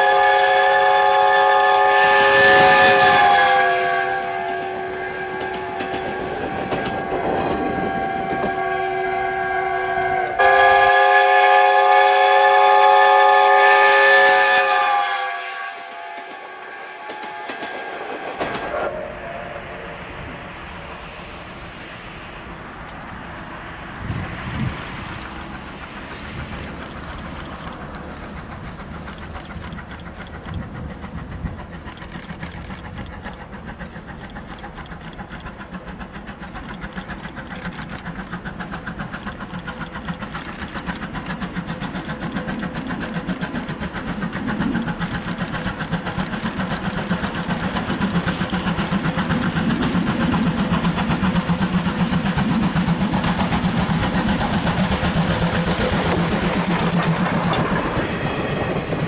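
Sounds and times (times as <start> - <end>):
steam train running: 0.0 - 59.0.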